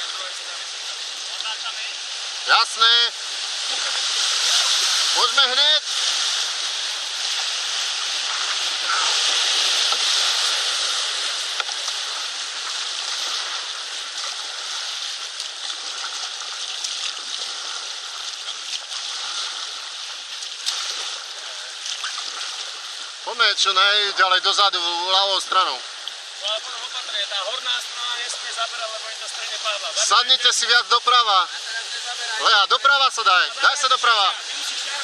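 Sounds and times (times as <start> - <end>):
paddles splashing water: 0.0 - 35.0
rushing whitewater: 0.0 - 35.0.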